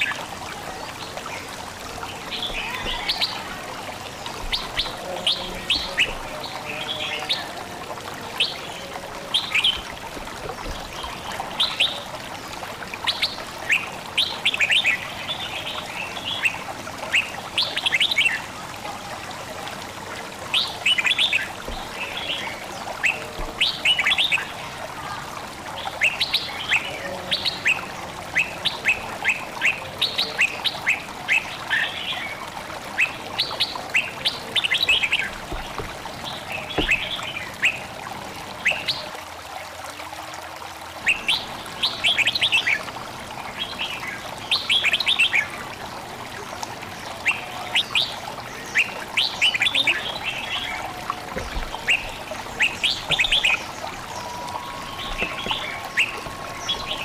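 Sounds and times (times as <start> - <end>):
babbling flowing water: 0.0 - 57.0
songbirds chirping: 0.0 - 57.0.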